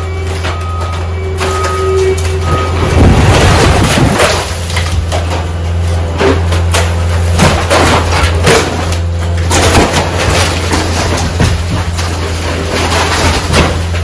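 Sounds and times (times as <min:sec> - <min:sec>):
diesel engine running: 0:00.0 - 0:14.0
debris clattering down: 0:00.1 - 0:14.0
wood crunching and snapping: 0:00.2 - 0:14.0.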